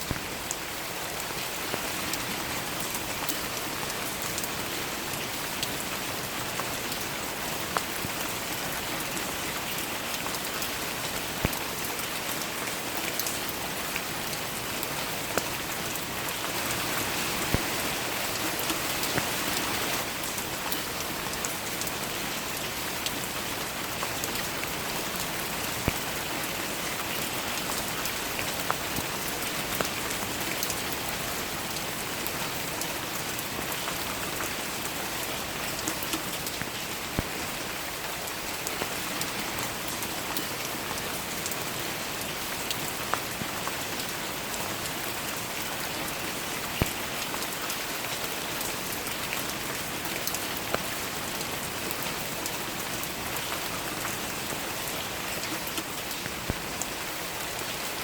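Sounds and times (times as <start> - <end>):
raindrops hitting close by: 0.0 - 58.0
steady rain patter: 0.0 - 58.0.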